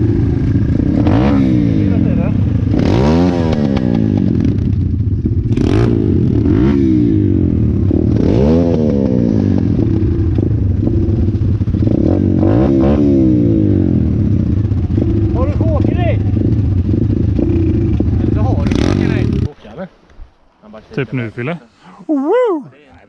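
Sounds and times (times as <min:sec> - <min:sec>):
pit bike engine running steadily: 0:00.0 - 0:19.5
pit bike engine revving: 0:00.0 - 0:19.6.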